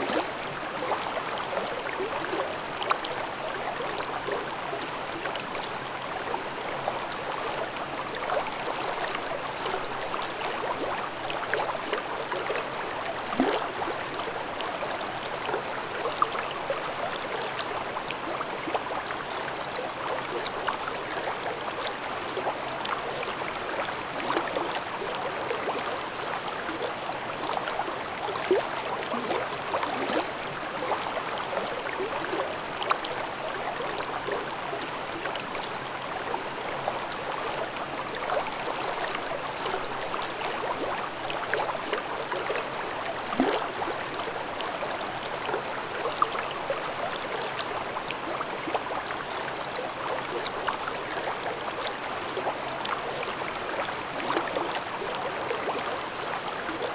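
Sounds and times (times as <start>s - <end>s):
stream gurgling over rocks: 0.0s - 56.9s.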